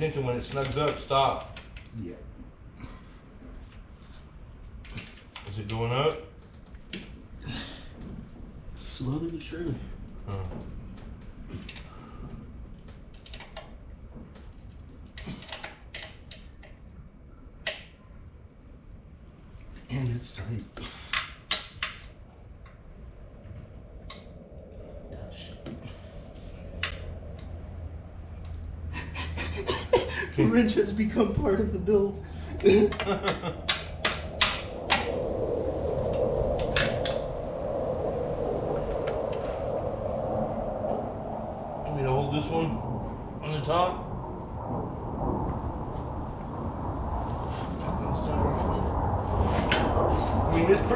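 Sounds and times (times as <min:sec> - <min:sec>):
steady background hum: 0:00.0 - 0:50.9.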